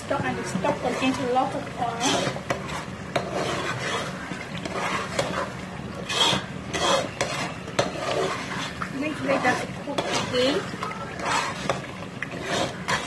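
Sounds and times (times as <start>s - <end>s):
metal spoon scraping pot: 0.1s - 13.0s.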